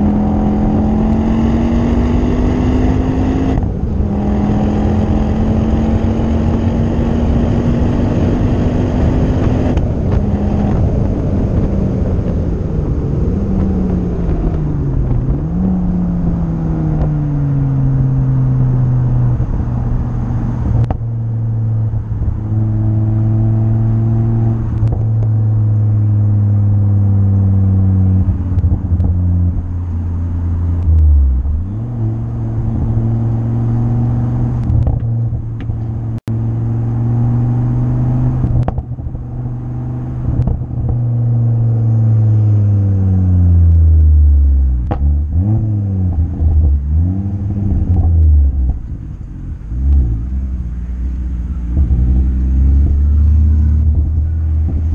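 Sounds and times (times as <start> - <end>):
car engine under load: 0.0 - 54.9.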